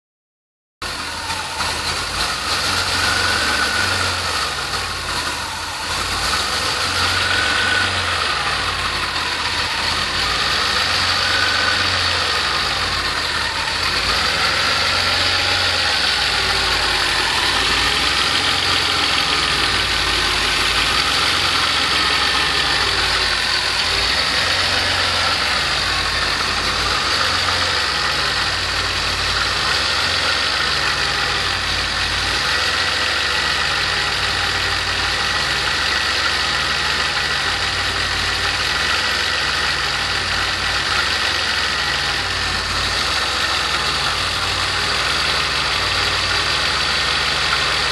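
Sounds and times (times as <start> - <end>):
car engine idling: 0.8 - 47.9.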